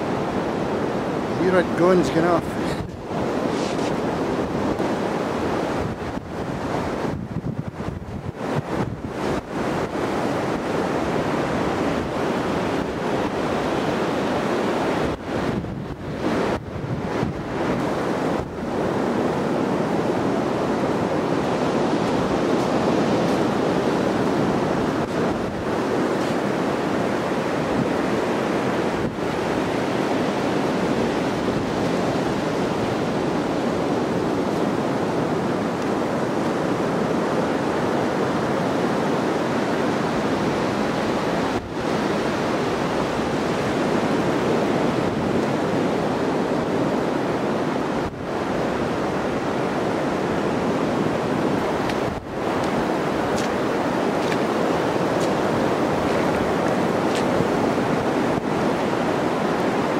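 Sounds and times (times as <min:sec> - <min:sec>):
surf breaking on a beach: 0:00.0 - 0:59.9
wind on microphone: 0:00.0 - 0:59.9.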